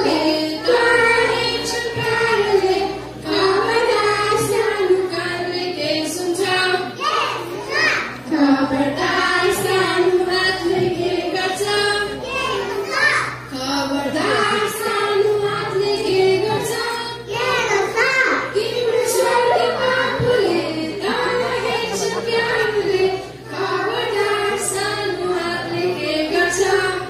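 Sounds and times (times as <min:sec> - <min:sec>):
children singing: 0:00.0 - 0:27.0
musical accompaniment: 0:00.0 - 0:27.0.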